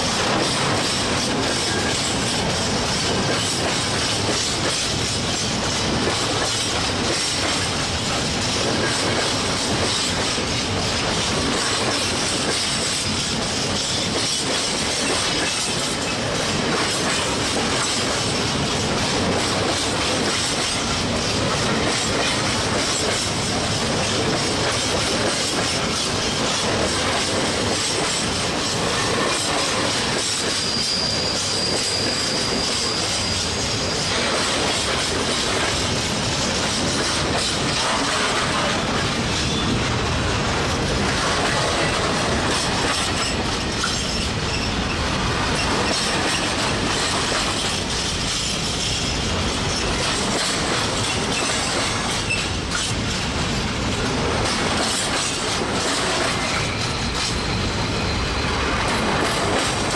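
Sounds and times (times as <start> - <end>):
train wheels clattering over joints: 0.0 - 59.9.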